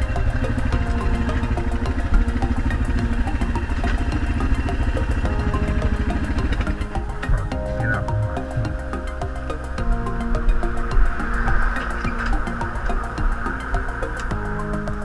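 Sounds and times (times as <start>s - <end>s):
motorcycle engine putting: 0.0s - 15.0s.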